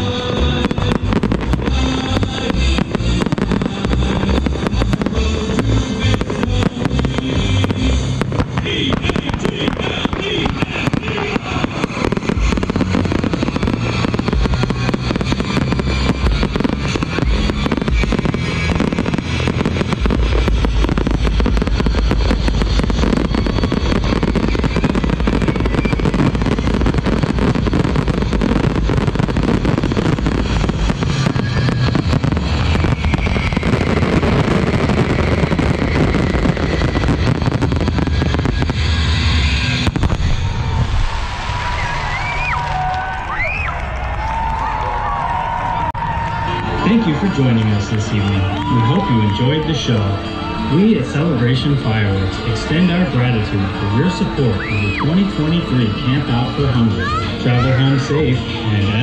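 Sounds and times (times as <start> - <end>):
music over loudspeakers: 0.0 - 40.6, 46.0 - 59.0
fireworks booming and crackling: 0.0 - 59.0.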